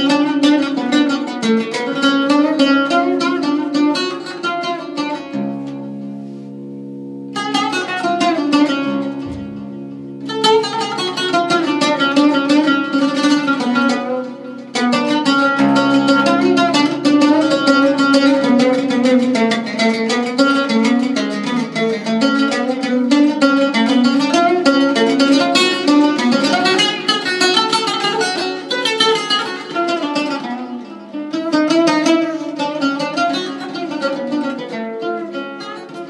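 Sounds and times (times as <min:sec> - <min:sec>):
rapidly plucked strings: 0:00.0 - 0:36.0.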